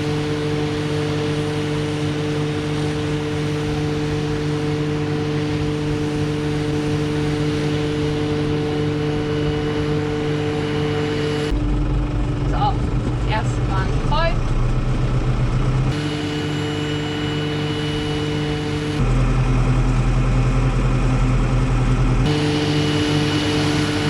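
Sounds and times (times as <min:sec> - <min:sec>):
constant humming tones: 0:00.0 - 0:24.0
farm machinery engine running: 0:00.0 - 0:24.0.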